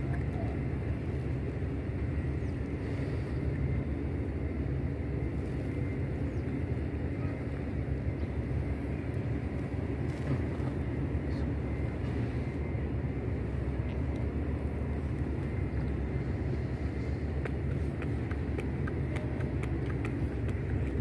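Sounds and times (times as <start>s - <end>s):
low outdoor background rumble: 0.0s - 21.0s.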